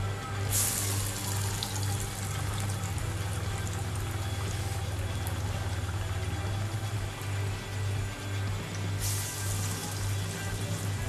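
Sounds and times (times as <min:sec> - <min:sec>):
low hum: 0:00.0 - 0:11.0
oil sizzling: 0:00.0 - 0:11.0.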